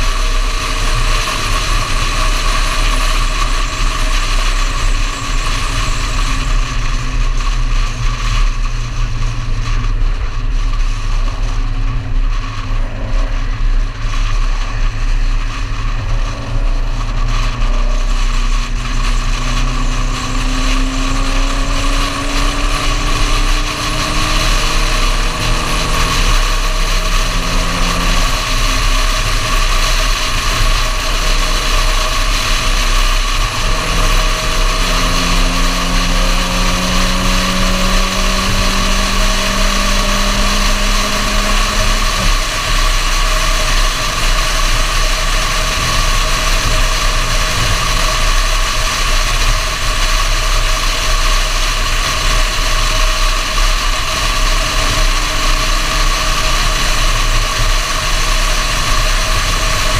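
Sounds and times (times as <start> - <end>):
car engine pulling: 0.0 - 59.9
wind and road noise: 0.0 - 59.9.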